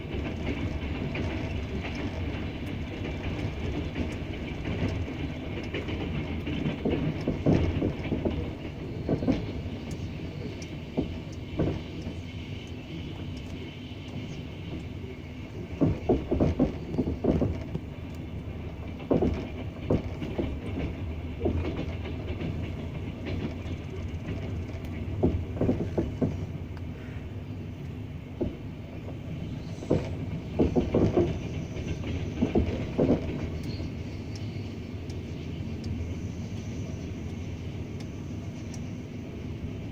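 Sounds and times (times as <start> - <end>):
train rolling rumble: 0.0 - 39.9
train wheels clacking on rail joints: 0.0 - 39.9.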